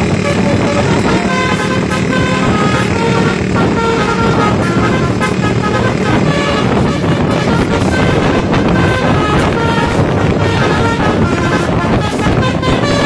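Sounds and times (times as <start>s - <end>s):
bus engine: 0.0s - 13.0s
musical horn playing tune: 0.0s - 13.0s
road noise: 0.0s - 13.0s.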